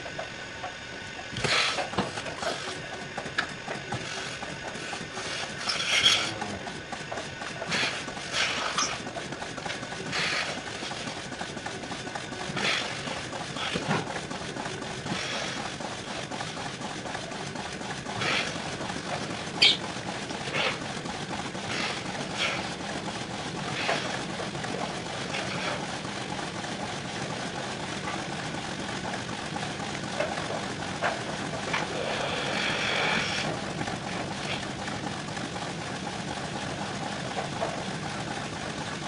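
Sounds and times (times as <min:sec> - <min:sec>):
milking machinery running: 0:00.0 - 0:39.0.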